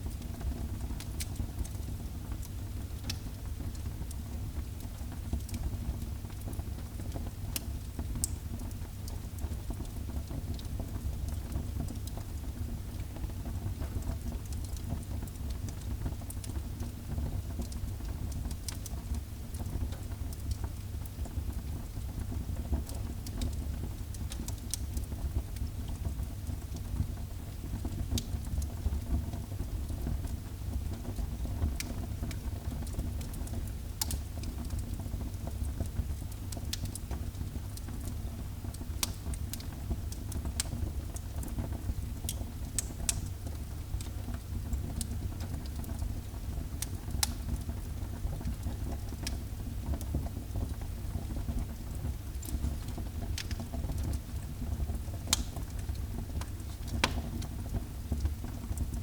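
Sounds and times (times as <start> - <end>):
low rumble of fire: 0.0 - 59.0
wood fire crackling: 0.1 - 59.0.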